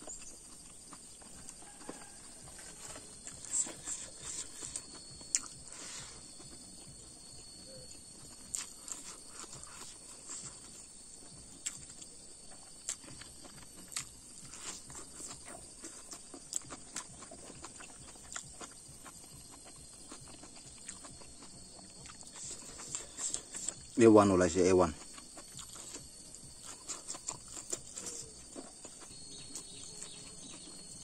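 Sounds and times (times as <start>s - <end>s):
chewing and lip-smacking: 0.0s - 31.0s.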